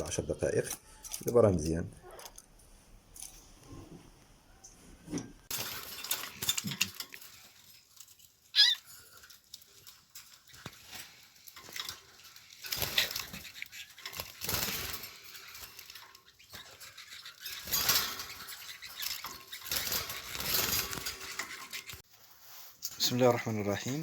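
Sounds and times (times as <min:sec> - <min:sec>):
rustling and scuffling: 0:02.4 - 0:24.0.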